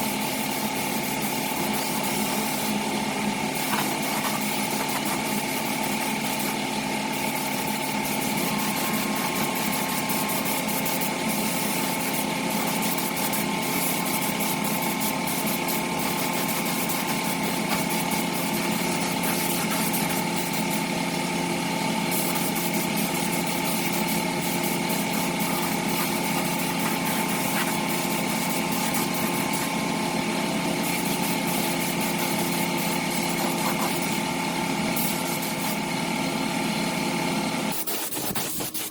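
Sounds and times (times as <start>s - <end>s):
power tool motor running: 0.0s - 38.9s.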